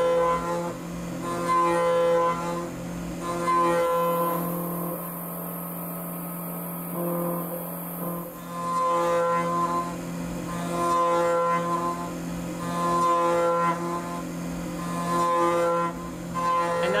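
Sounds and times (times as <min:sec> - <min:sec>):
mill spindle hum: 0:00.0 - 0:17.0
ringing whine of cutter: 0:00.0 - 0:17.0.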